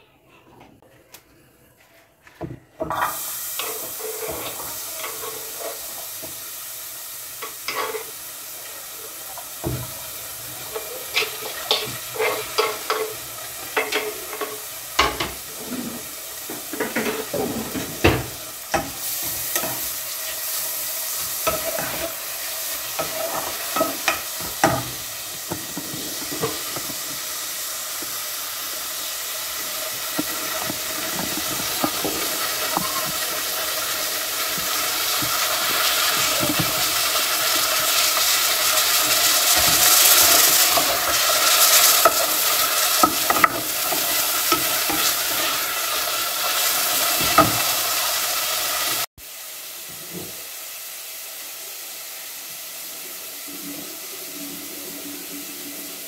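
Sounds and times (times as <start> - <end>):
onion sizzling in oil: 2.8 - 56.0.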